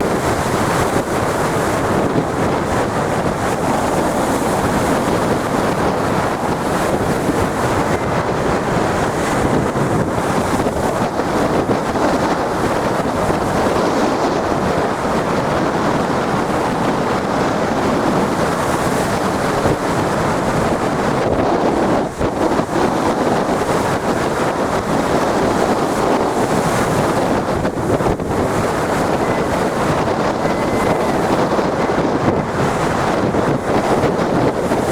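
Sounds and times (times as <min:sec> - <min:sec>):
big sea waves breaking: 0:00.0 - 0:34.9
strong wind on microphone: 0:00.0 - 0:34.9.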